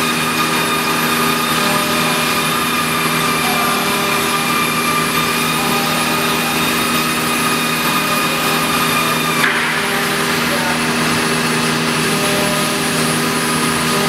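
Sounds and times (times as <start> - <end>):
low machine hum: 0.0 - 14.0
router spindle whine: 0.0 - 14.0.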